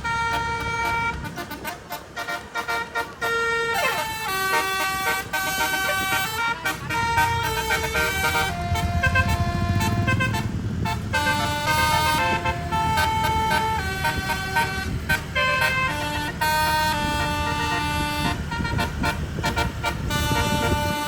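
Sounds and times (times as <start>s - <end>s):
low engine rumble: 0.0s - 21.0s
multi-trumpet bus horn melody: 0.0s - 21.0s.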